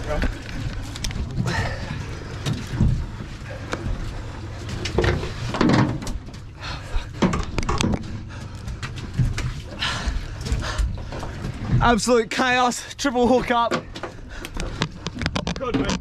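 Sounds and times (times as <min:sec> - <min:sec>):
steady low rumble: 0:00.0 - 0:13.6.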